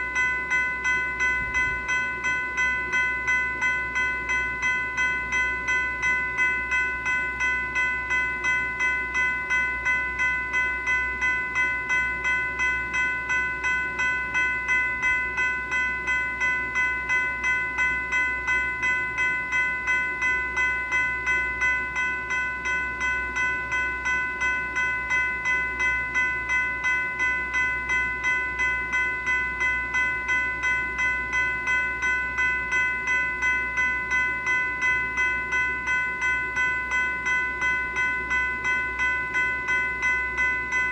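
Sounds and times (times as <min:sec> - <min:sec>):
electronic crossing bell dinging: 0:00.0 - 0:40.9.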